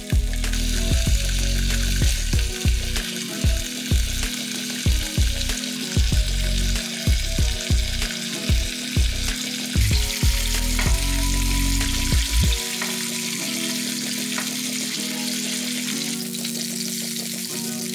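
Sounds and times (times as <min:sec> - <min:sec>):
background music with low beat: 0:00.0 - 0:17.9
meat sizzling in butter: 0:00.0 - 0:17.9.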